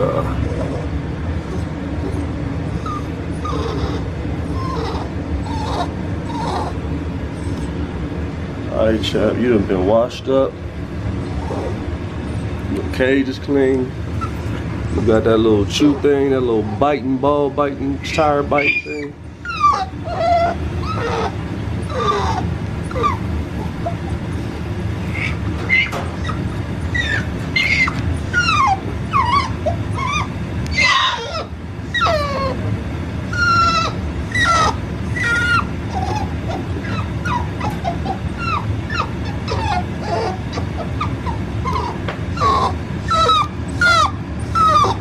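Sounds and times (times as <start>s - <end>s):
puppy whining: 0.0s - 8.1s, 11.1s - 12.9s, 14.0s - 17.1s, 18.1s - 45.0s
steady low hum: 0.0s - 45.0s.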